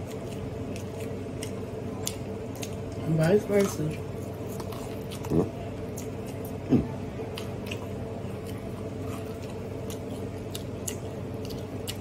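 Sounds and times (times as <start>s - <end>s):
chewing and lip-smacking: 0.0s - 12.0s.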